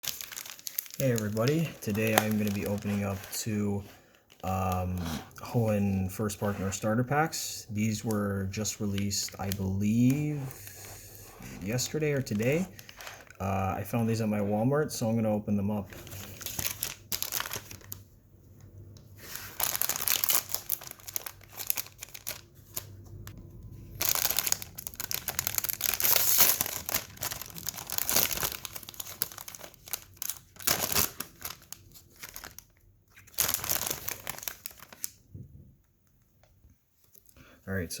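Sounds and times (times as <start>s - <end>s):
packaging rustling: 0.0s - 7.1s, 7.7s - 14.4s, 15.8s - 18.0s, 19.2s - 35.2s.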